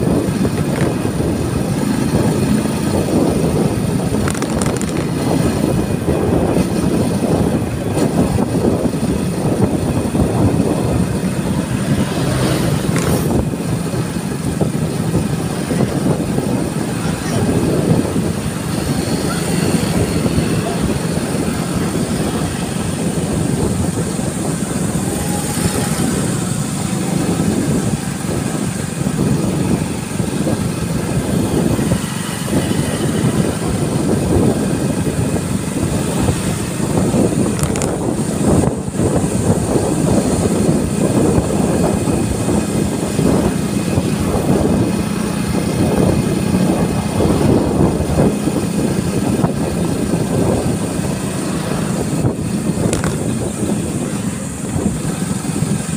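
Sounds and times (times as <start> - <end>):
motorcycle engine running: 0.0 - 55.9
wind rushing on microphone: 0.0 - 55.9.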